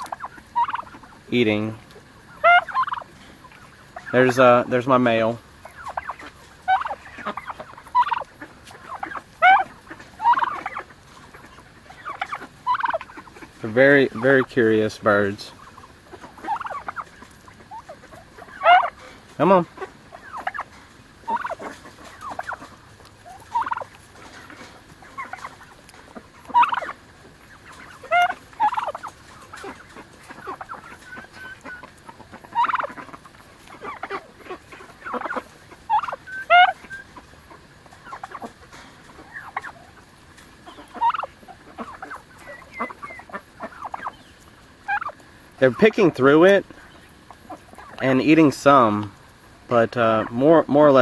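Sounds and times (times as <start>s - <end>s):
turkeys yelping and chirping: 0.0s - 51.0s.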